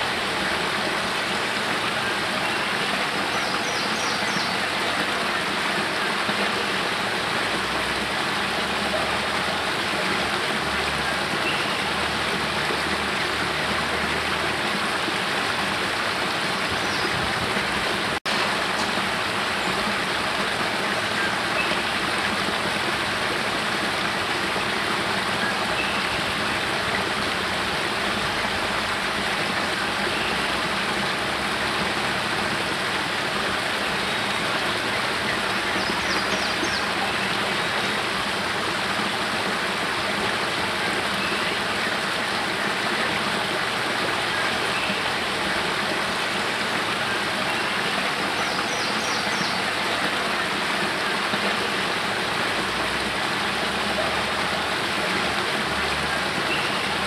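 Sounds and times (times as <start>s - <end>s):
waterfall rushing over rocks: 0.0s - 57.0s.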